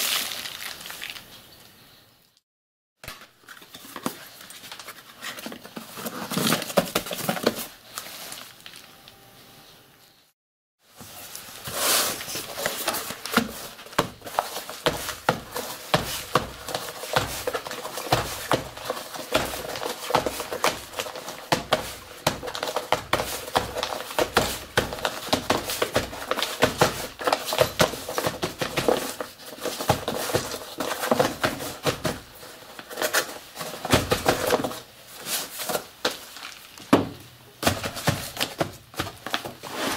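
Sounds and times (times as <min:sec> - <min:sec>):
paper crinkling and crackling: 0:03.0 - 0:09.2, 0:11.0 - 0:36.9.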